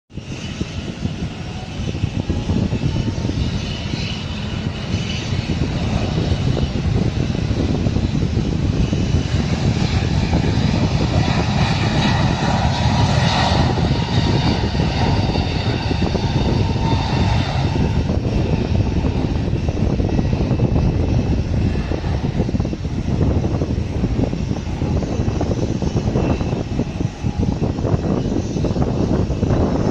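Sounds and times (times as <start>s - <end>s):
jet engines roaring with whine: 0.1s - 29.9s.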